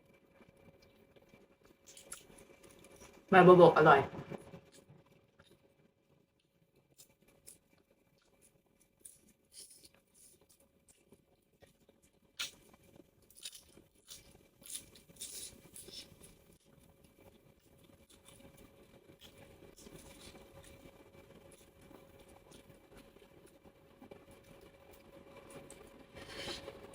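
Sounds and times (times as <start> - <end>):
small clicks and crackles: 0.1 - 3.3, 4.4 - 26.9
person chewing and crunching: 0.6 - 3.3, 4.5 - 26.9.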